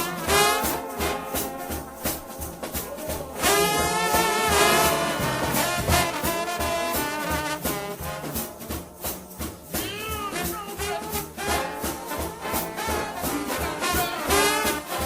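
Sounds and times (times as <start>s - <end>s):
band with percussive beat: 0.0s - 15.0s
gospel voices singing: 0.0s - 15.0s.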